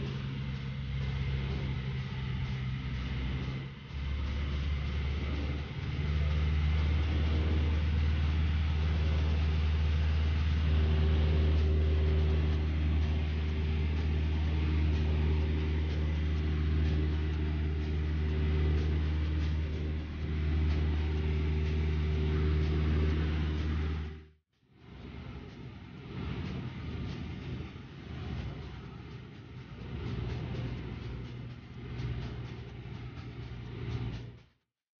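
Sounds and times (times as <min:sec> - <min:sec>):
aircraft engine drone in cabin: 0:00.0 - 0:34.4.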